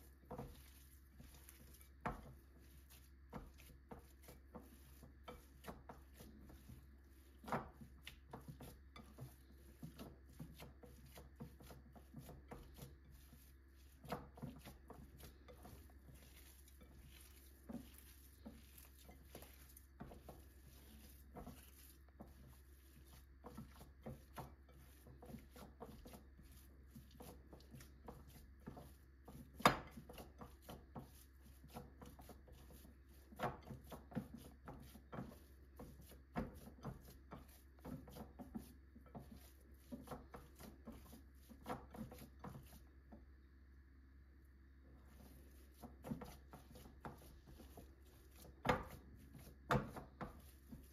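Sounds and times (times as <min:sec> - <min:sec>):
hands squishing raw meat: 0:00.0 - 0:43.0.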